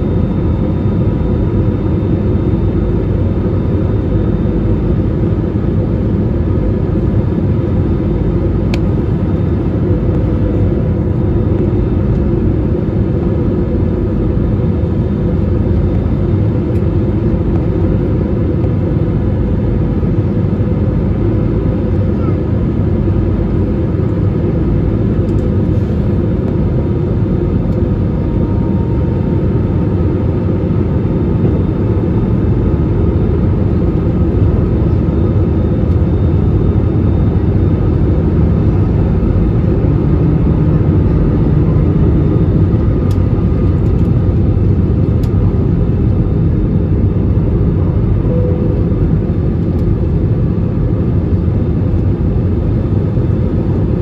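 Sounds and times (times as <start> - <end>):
jet engine and airflow rumble: 0.0 - 54.0.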